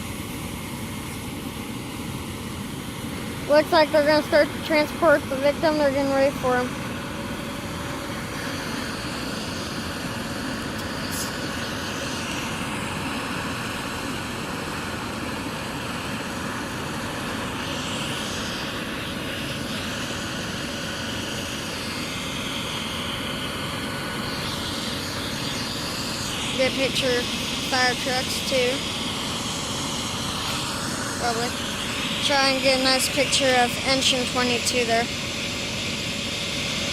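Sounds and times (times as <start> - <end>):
helicopter turbine and rotor: 0.0 - 36.9.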